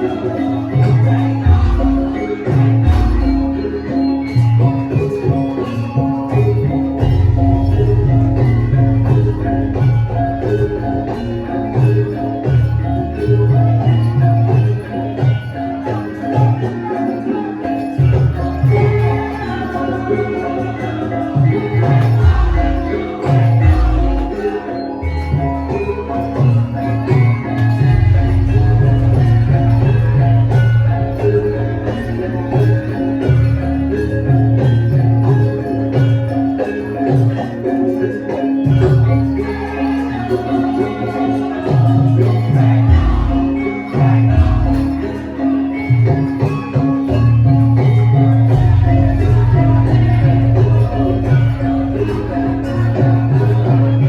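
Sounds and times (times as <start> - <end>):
deep low gamelan part: 0.0 - 54.0
metallophones striking notes: 0.0 - 54.0.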